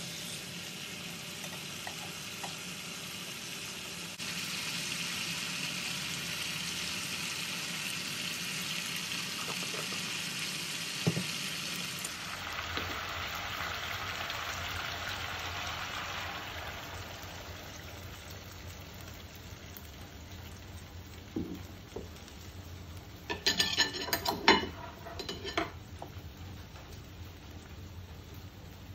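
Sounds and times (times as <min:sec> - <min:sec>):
fish frying in oil: 0:00.0 - 0:28.9.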